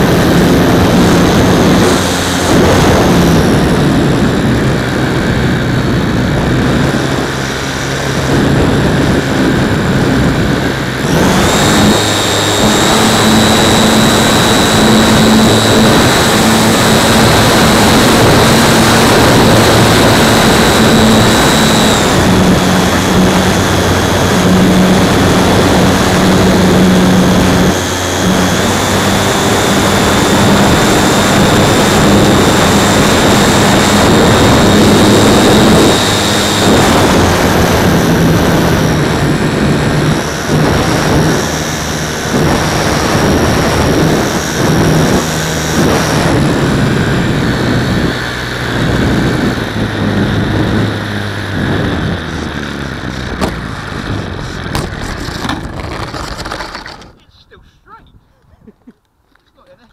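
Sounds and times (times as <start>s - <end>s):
model plane motor whine: 0.0s - 57.2s.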